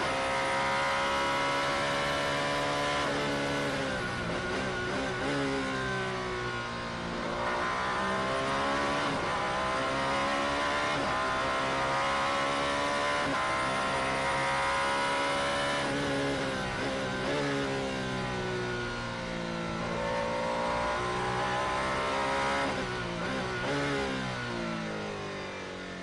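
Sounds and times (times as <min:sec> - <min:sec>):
racing car engine: 0:00.0 - 0:26.0.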